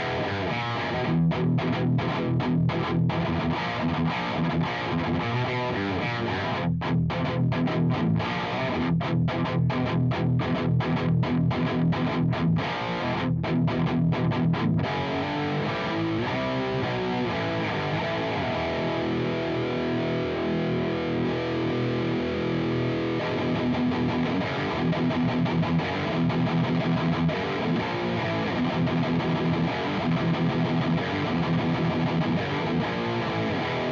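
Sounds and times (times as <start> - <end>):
distorted electric guitar riff: 0.0 - 33.9.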